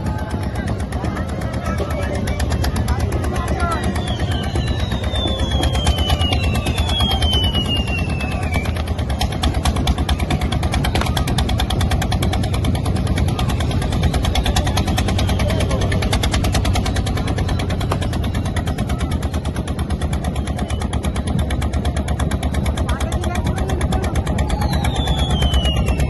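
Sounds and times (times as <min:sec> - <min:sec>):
boat engine knocking: 0:00.0 - 0:26.0.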